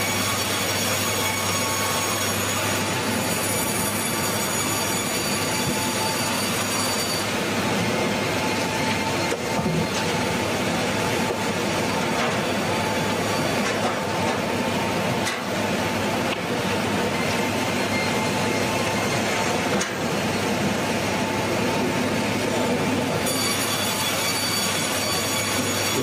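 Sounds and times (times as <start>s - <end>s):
sawmill saw running: 0.0s - 26.0s.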